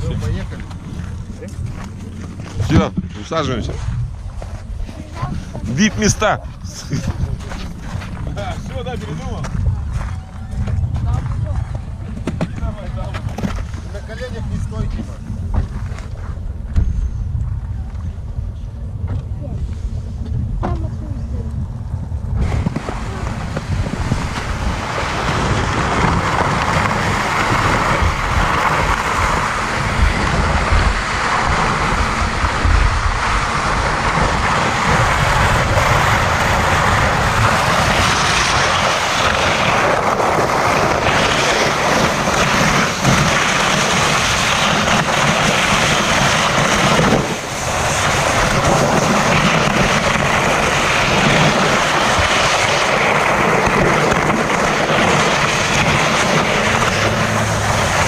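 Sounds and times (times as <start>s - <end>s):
vehicle engine noise: 0.0s - 58.0s
wind buffeting microphone: 0.0s - 58.0s.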